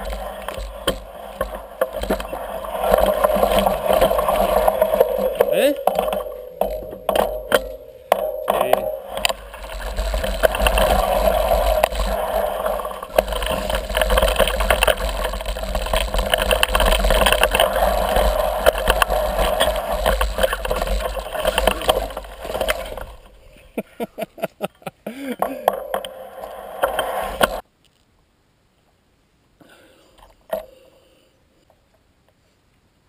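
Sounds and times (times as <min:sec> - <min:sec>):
mountain bike rattling on rough trail: 0:00.0 - 0:24.5, 0:25.2 - 0:27.6.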